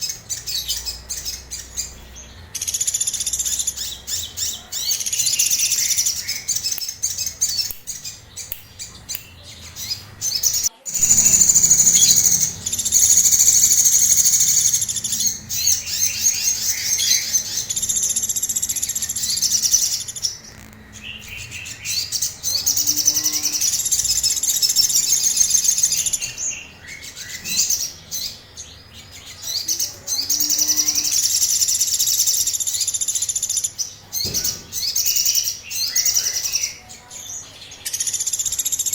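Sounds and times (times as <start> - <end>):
songbird trilling song: 0.0 - 38.9.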